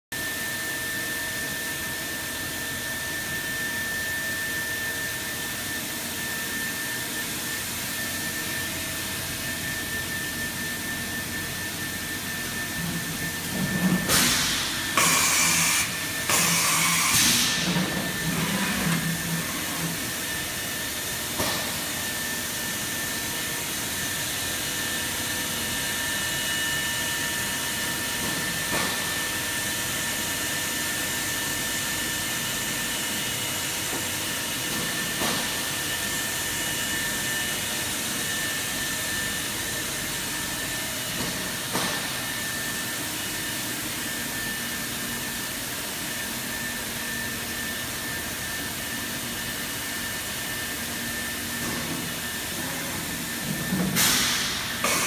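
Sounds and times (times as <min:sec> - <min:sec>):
machine hiss with high whine: 0:00.2 - 0:55.0.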